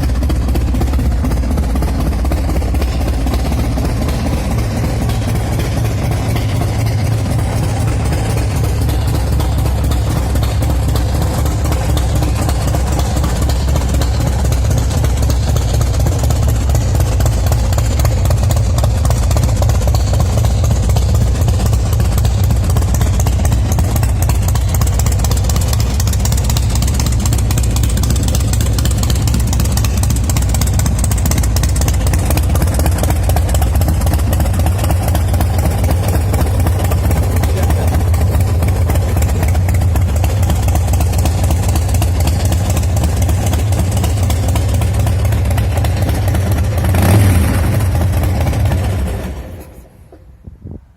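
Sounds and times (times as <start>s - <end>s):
motorcycle engine idling: 0.0s - 50.3s.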